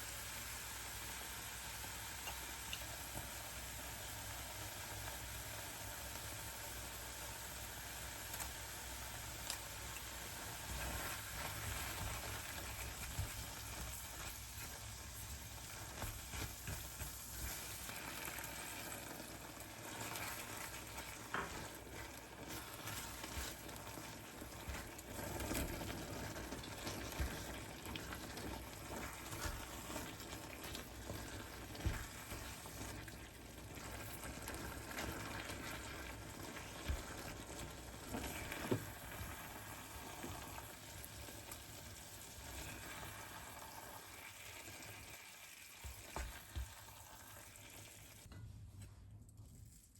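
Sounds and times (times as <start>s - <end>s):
food sizzling in a pan: 0.0s - 48.3s.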